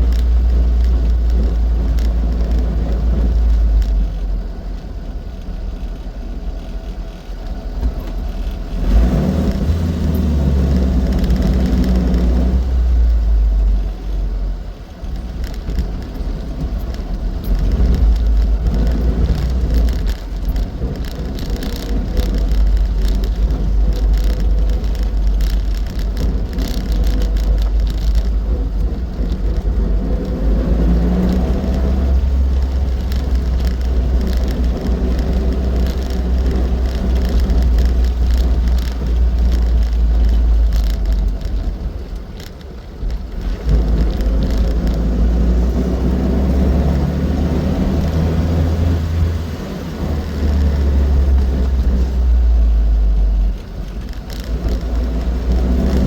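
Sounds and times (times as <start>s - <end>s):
car engine rumbling: 0.0s - 56.0s
road noise: 0.0s - 56.0s.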